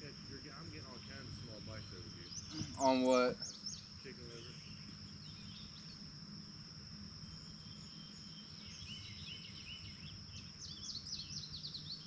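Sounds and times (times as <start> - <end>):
high insect trill: 0.0 - 12.0
songbird chirping: 0.0 - 12.0.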